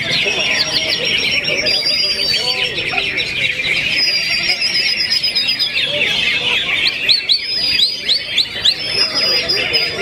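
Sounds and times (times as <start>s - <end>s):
chorus of songbirds: 0.0s - 10.0s
leafbird song: 0.0s - 10.0s.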